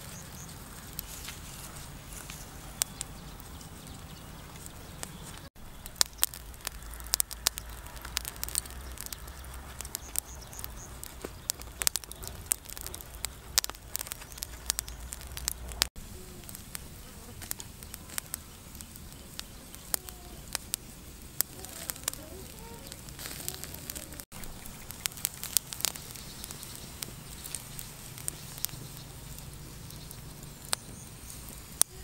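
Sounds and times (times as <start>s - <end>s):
charcoal fire crackling: 0.0s - 32.0s.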